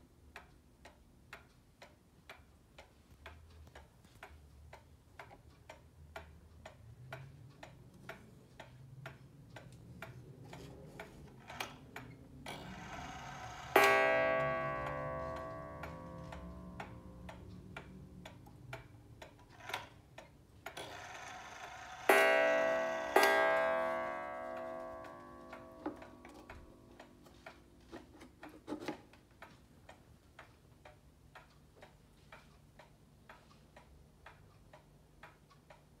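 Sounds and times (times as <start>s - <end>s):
pendulum clock ticking: 0.0s - 36.0s
clock striking the hour: 0.3s - 32.0s.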